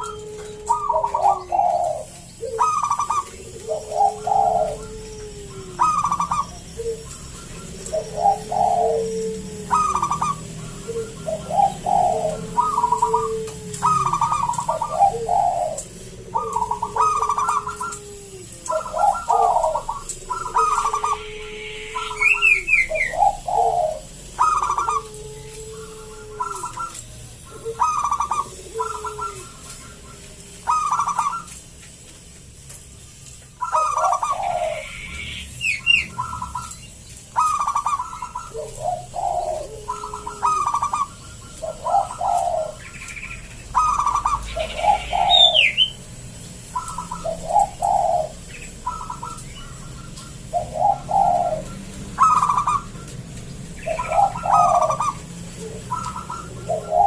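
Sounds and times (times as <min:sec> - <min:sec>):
dove cooing: 0:00.0 - 0:57.0
small bird chirps: 0:00.0 - 0:57.0.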